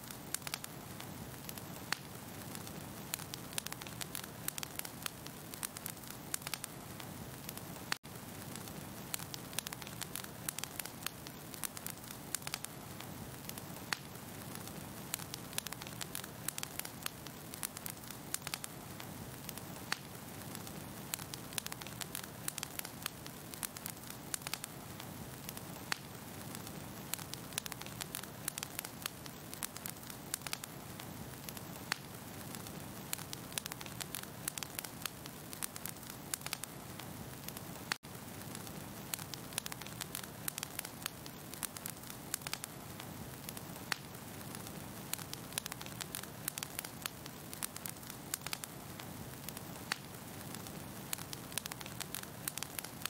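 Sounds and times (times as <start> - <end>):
fire crackling: 0.0 - 53.0.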